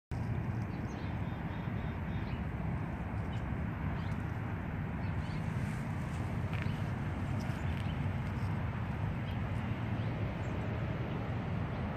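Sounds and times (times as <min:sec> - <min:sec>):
steady low rumbling: 0:00.1 - 0:11.9.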